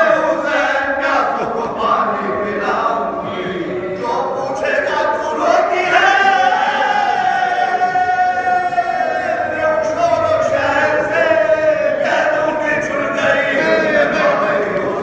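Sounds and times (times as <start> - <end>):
men singing unaccompanied: 0.0 - 15.0.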